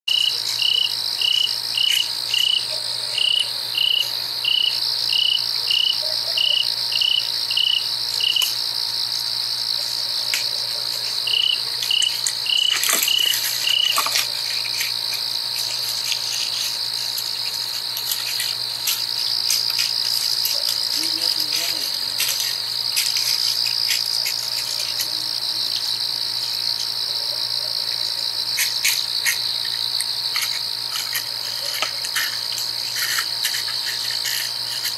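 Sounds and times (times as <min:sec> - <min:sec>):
crickets trilling: 0:00.1 - 0:34.9
insect chirping: 0:00.1 - 0:34.9.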